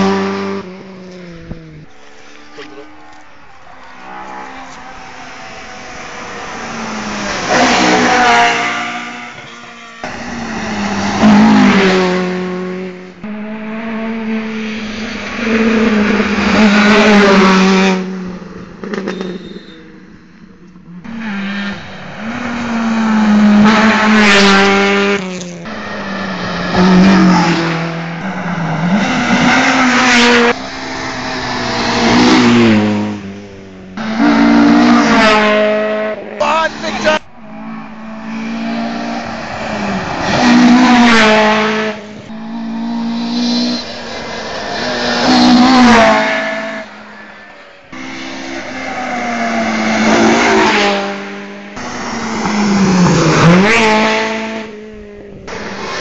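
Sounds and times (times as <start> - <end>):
rally car engines revving hard: 0.0 - 56.0.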